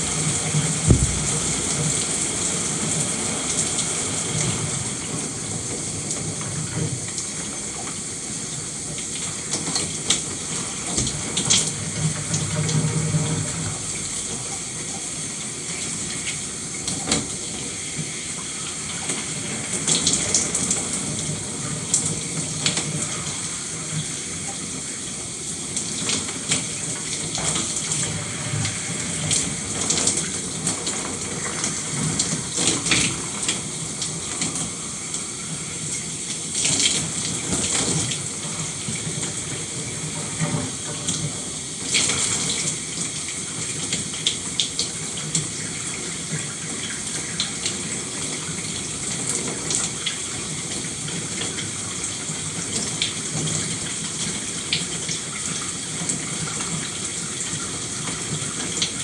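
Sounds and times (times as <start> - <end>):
shower water spraying: 0.0 - 6.3, 13.8 - 55.6.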